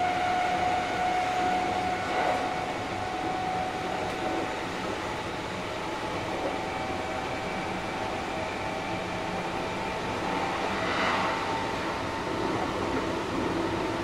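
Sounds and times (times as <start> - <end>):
electric train whine: 0.0 - 14.0
train wheels rumbling on track: 0.0 - 14.0.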